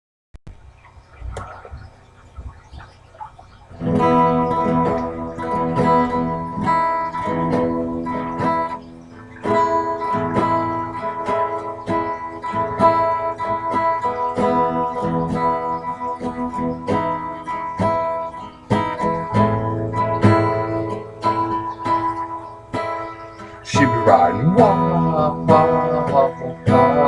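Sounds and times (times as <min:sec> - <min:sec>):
acoustic guitar strumming: 0:03.5 - 0:27.0.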